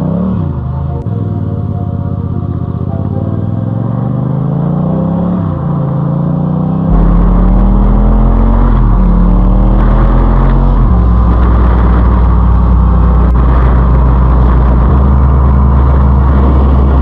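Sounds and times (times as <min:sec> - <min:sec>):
loud low rumble: 0:00.0 - 0:17.0
motorcycle engine accelerating: 0:00.0 - 0:17.0.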